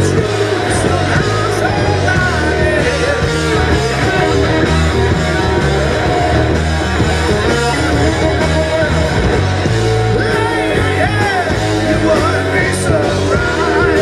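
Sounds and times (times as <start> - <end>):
bass guitar: 0.0 - 14.0
distorted electric guitars: 0.0 - 14.0
drums: 0.0 - 14.0.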